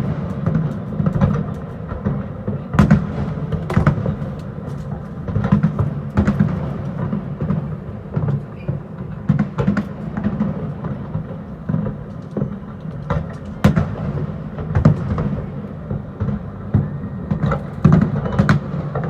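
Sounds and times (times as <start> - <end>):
distant fireworks bangs: 0.0 - 19.0.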